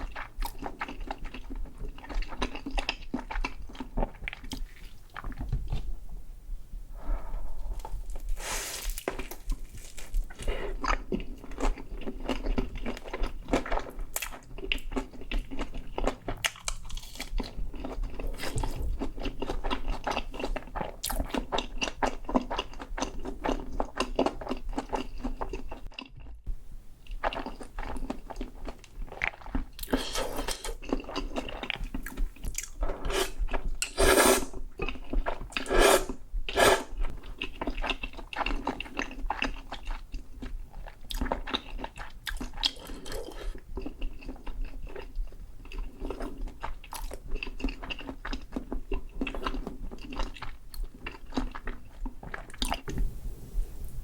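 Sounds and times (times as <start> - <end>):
person chewing crunchy food: 0.0 - 5.9, 7.6 - 26.3, 27.0 - 53.0.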